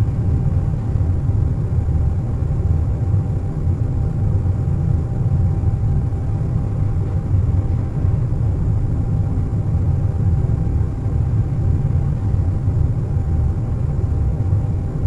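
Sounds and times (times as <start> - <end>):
faint constant tone: 0.0 - 15.0.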